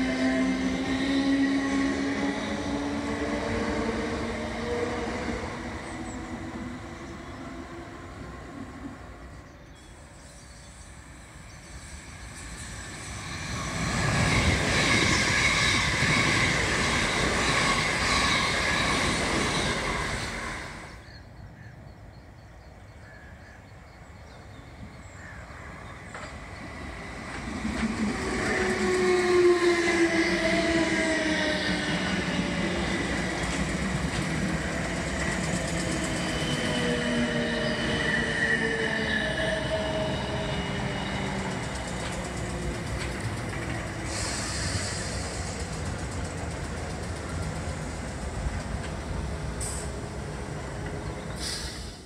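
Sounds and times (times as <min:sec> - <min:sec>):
loud train noise: 0:00.0 - 0:23.0, 0:23.7 - 0:52.0.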